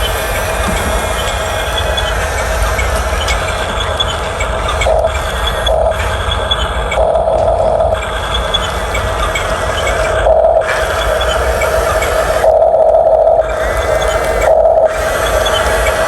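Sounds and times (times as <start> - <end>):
high motor whine: 0.0 - 16.0
toy motors and gears clattering: 0.0 - 16.0.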